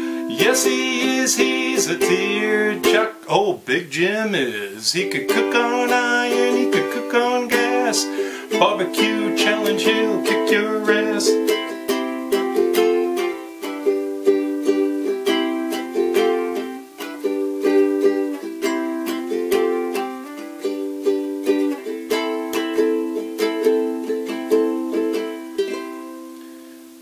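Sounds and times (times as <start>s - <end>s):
ukulele strumming: 0.0s - 27.0s.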